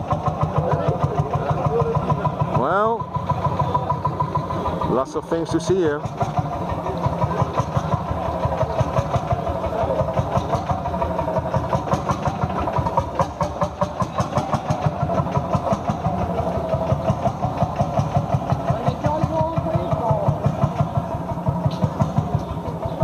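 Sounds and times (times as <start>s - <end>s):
tractor engine running slowly: 0.0s - 23.0s.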